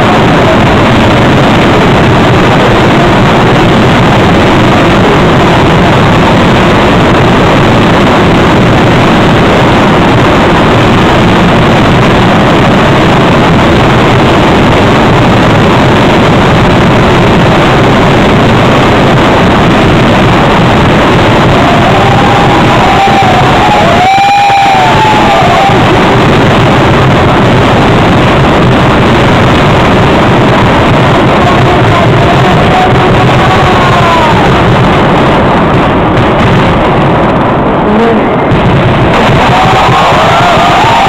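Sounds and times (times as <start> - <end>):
fireworks barrage: 0.0 - 41.0.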